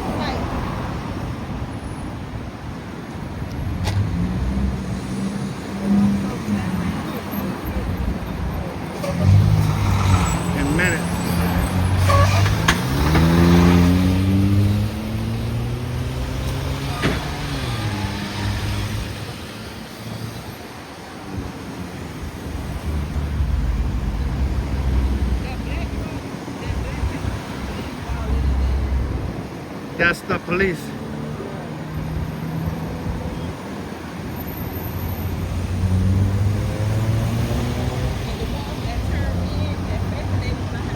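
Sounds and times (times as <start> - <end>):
street noise: 0.0 - 40.9
vehicle engine accelerating: 3.7 - 20.6, 21.6 - 29.8, 30.9 - 40.9.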